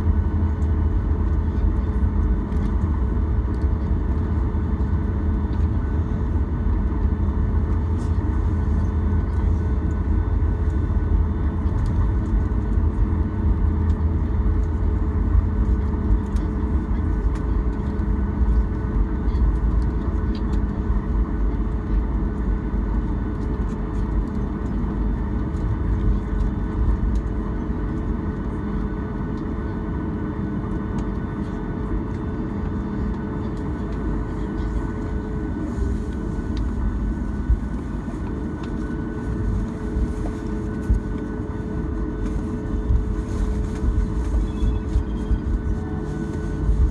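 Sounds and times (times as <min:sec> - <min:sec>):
deep rumble: 0:00.0 - 0:28.5, 0:32.2 - 0:46.9
aircraft engines humming: 0:00.0 - 0:46.9.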